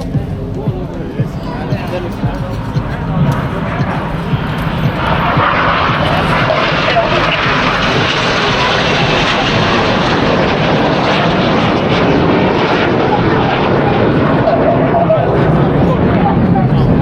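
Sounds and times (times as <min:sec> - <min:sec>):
jets passing low: 0:00.0 - 0:17.0.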